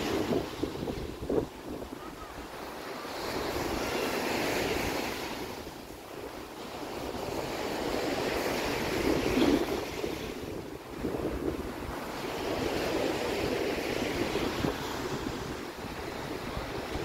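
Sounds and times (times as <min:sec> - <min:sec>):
small waves washing on sand: 0:00.0 - 0:17.0
wind buffeting microphone: 0:00.0 - 0:17.0.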